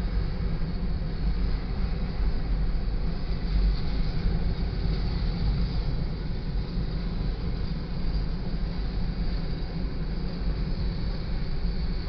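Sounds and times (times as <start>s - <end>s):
freight cars rumbling on rails: 0.0s - 12.0s.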